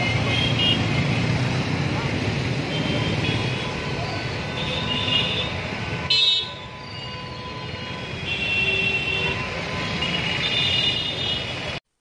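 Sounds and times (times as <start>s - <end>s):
vehicle horns honking: 0.0s - 1.1s, 2.7s - 11.8s
road traffic engines: 0.0s - 11.9s.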